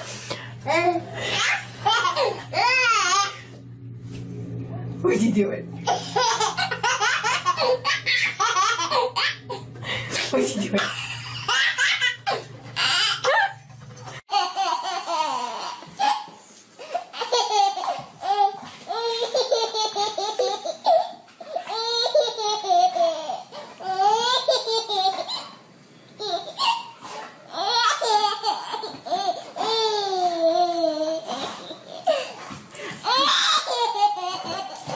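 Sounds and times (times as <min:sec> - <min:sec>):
baby laughing: 0:00.7 - 0:03.4, 0:05.8 - 0:09.6, 0:10.8 - 0:13.6, 0:14.3 - 0:25.6, 0:26.2 - 0:32.4, 0:33.0 - 0:34.9.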